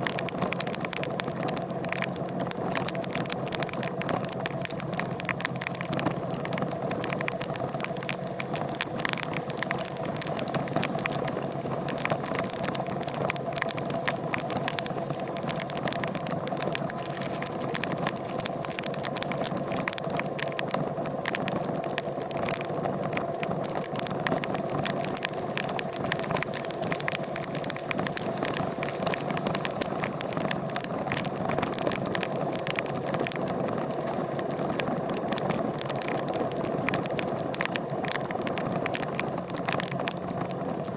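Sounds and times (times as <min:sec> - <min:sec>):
vehicle running with rattling clicks: 0:00.0 - 0:40.9.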